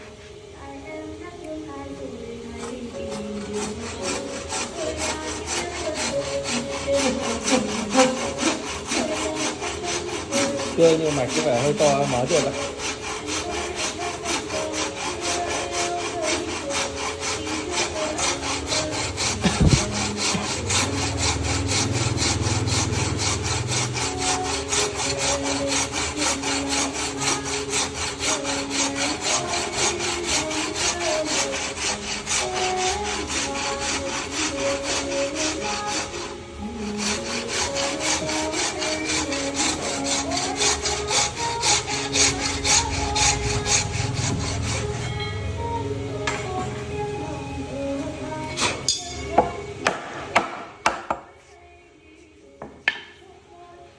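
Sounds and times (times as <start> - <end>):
hand saw cutting wood: 2.5 - 45.2, 48.3 - 51.6, 52.6 - 53.2.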